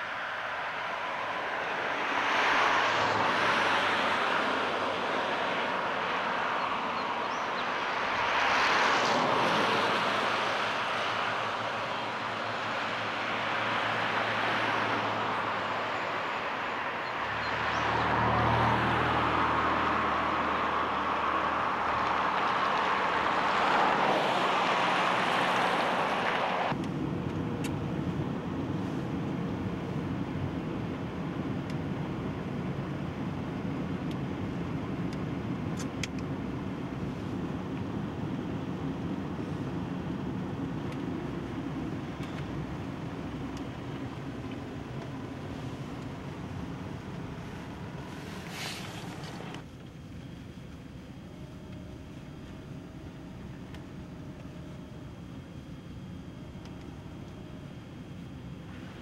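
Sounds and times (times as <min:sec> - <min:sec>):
highway traffic passing: 0:00.0 - 0:59.0
road and engine noise inside car: 0:00.0 - 0:59.0.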